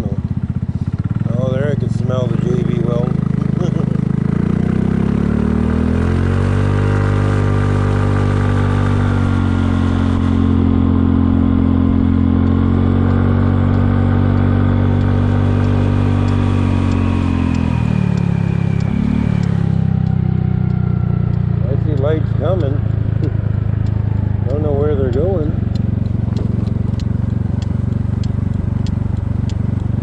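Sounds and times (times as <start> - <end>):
scooter engine running: 0.0 - 30.0.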